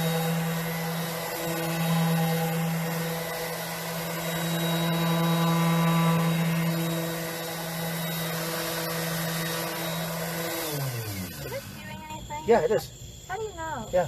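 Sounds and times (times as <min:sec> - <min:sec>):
power sander motor hum: 0:00.0 - 0:12.6.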